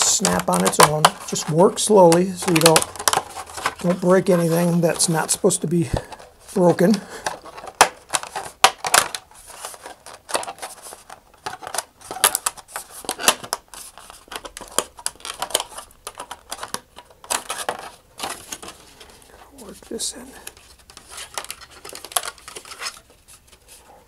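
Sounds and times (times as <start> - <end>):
plastic sheet crackling and clicking: 0.0 - 23.6.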